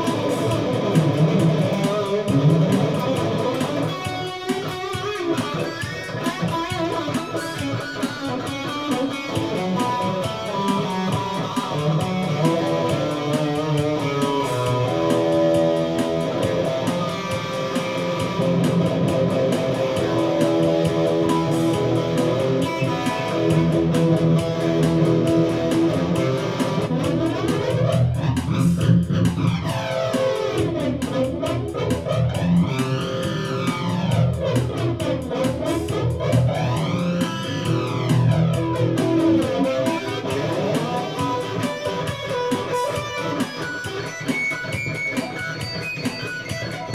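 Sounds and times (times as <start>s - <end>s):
drum machine beat: 0.0s - 46.9s
electric guitar playing: 0.0s - 46.9s.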